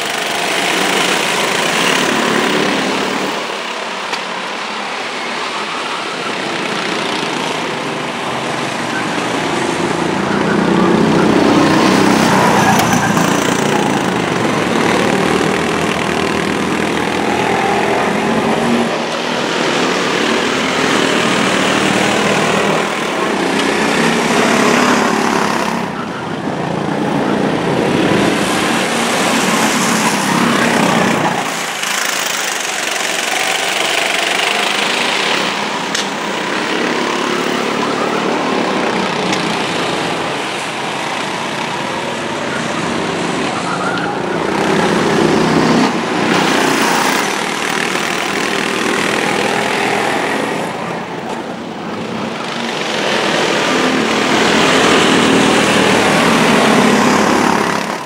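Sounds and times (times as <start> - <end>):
go-kart engines: 0.0 - 58.0.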